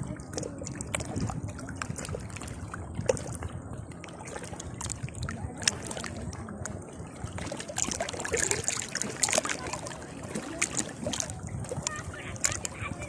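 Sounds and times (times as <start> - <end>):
sea water lapping and sloshing: 0.0 - 13.0
small splashes and trickles: 0.0 - 13.0.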